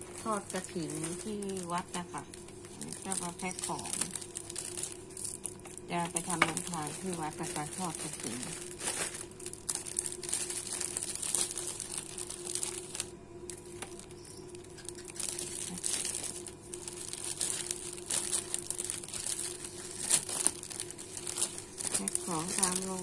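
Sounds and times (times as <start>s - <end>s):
plastic bags crinkling: 0.0s - 23.0s.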